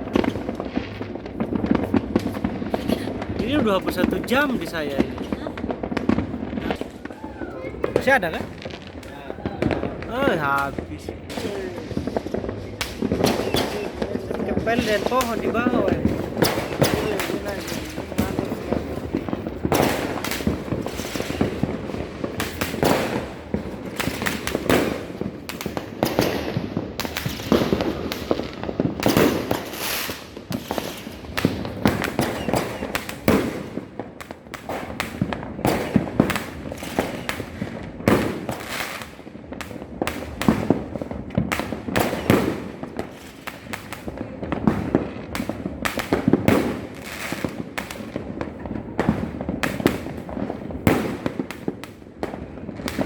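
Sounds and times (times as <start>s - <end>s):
firecrackers bangs and crackles: 0.0s - 53.0s.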